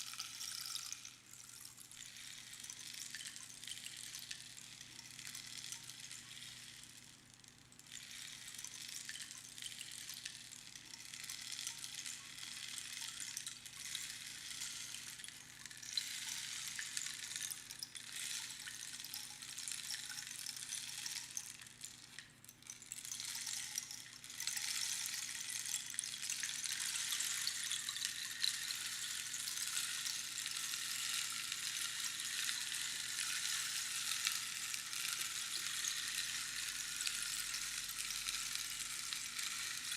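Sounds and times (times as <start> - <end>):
rainstick pebbles trickling: 0.0 - 39.9.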